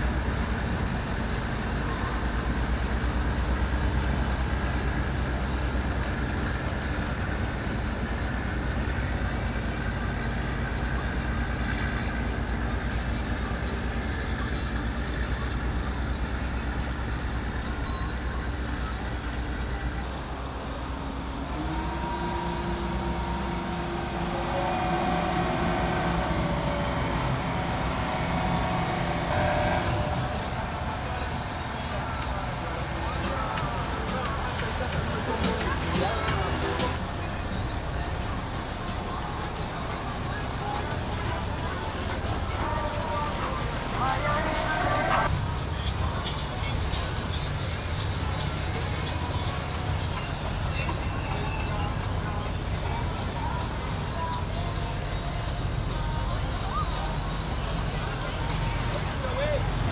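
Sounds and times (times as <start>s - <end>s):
boat engines rumbling: 0.0s - 59.9s.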